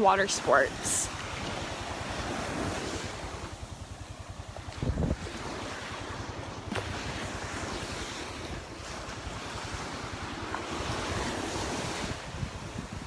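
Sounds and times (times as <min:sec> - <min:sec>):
surf washing onto sandy beach: 0:00.0 - 0:13.0
wind rumbling on microphone: 0:00.0 - 0:13.0.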